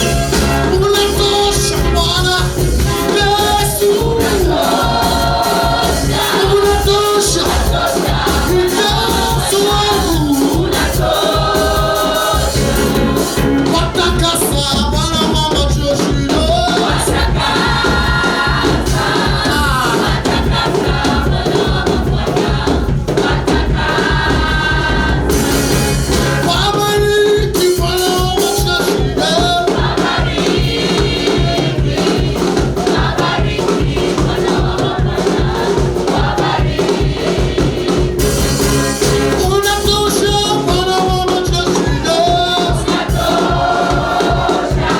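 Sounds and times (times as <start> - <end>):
band with steady beat: 0.0 - 44.9
group singing gospel music: 0.0 - 44.9.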